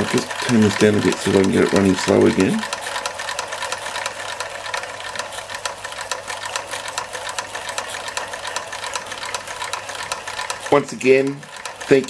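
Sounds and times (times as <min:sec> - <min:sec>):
toy steam engine clicking: 0:00.0 - 0:12.0.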